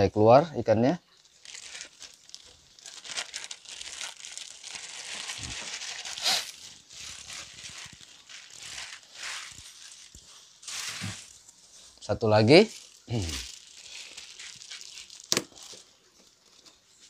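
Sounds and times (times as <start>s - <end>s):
plastic bag crinkling: 1.0s - 17.0s.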